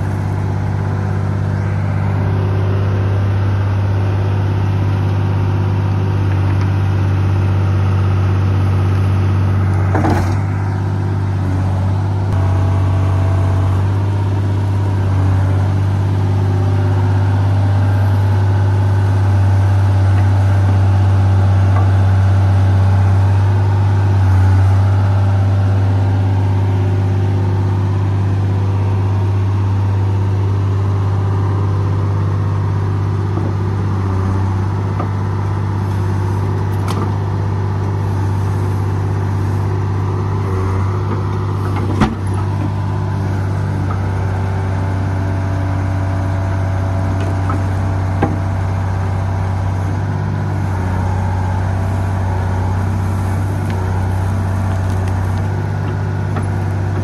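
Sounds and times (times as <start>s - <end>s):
excavator diesel engine drone: 0.0s - 57.0s.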